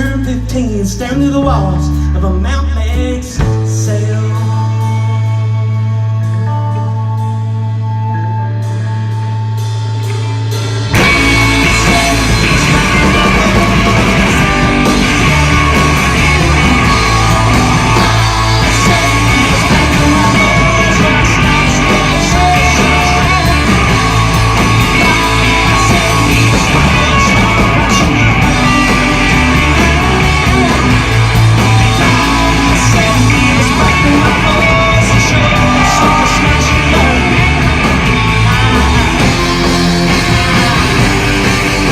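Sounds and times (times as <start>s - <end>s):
rock band playing loud: 0.0s - 41.9s.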